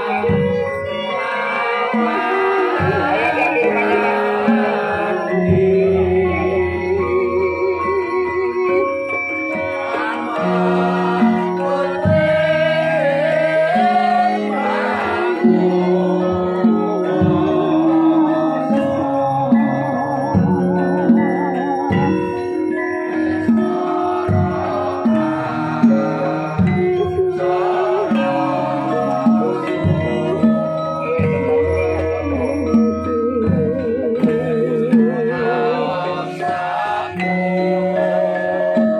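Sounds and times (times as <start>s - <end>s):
gamelan metallophones ringing: 0.0s - 38.9s
woman singing wavering line: 0.0s - 38.9s.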